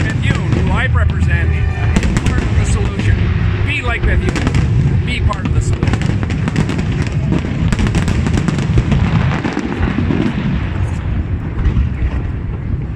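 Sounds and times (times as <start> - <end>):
fireworks crackling: 0.0 - 12.9
low rumble of fireworks booms: 0.0 - 12.9.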